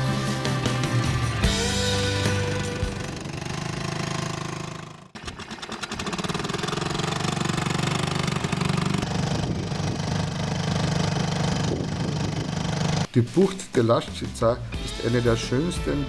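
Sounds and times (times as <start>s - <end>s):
outboard motor running: 0.0s - 13.1s.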